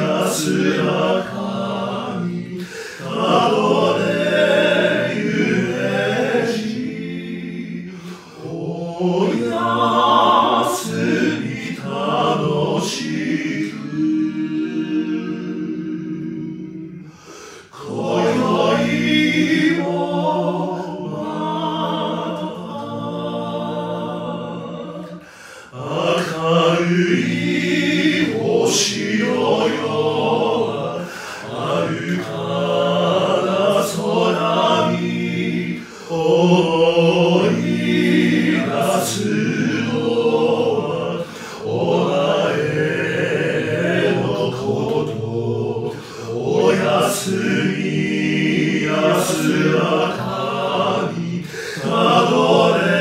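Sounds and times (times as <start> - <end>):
male a cappella singing: 0.0 - 53.0.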